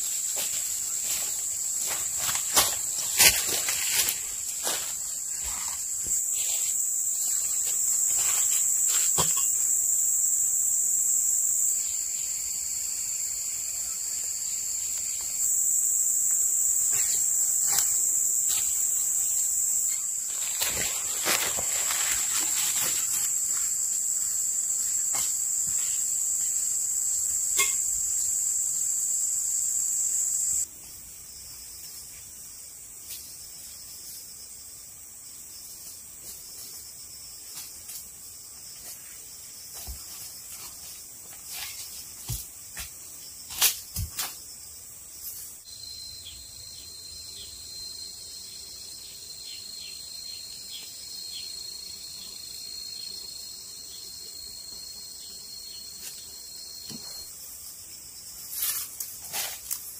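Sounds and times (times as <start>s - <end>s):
crickets trilling: 0.0s - 59.9s
lower insect trill: 0.0s - 59.9s.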